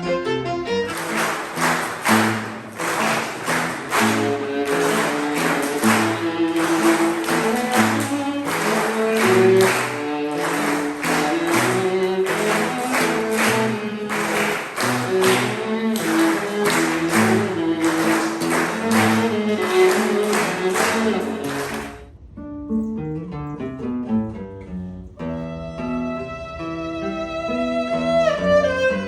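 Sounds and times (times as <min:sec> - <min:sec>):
sustained string notes: 0:00.0 - 0:29.0.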